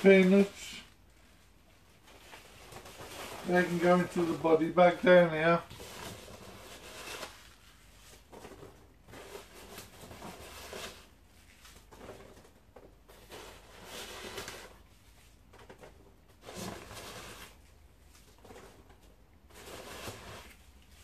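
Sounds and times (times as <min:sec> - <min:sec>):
foam packing peanuts rustling: 0:00.0 - 0:21.0.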